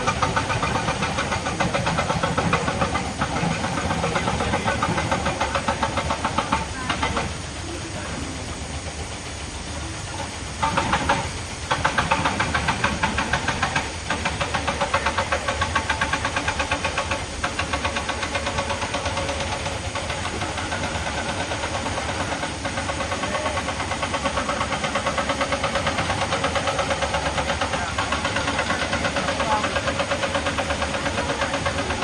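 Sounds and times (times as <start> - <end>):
heavy diesel machinery pulsing: 0.0 - 32.0.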